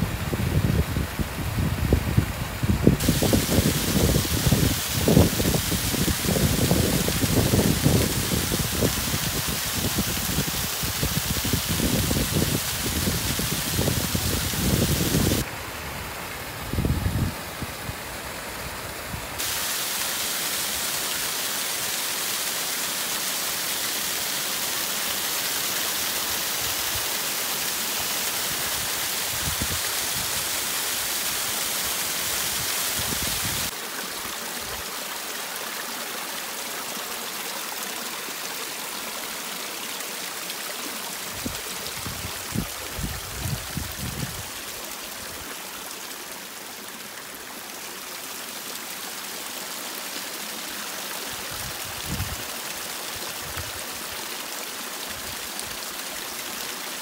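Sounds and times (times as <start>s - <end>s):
small waterfall splashing on rock: 3.0s - 15.5s, 19.4s - 57.0s.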